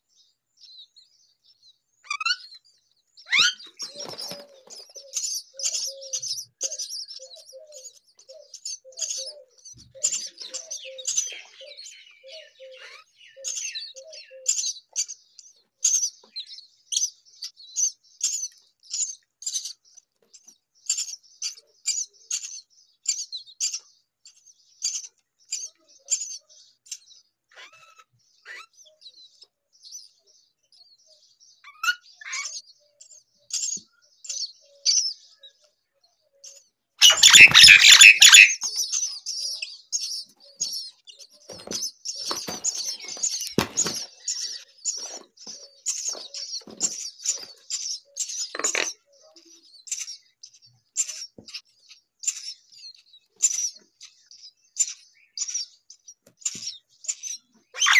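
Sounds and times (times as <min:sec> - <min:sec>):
nestlings begging with high chirps: 0:00.0 - 0:57.9.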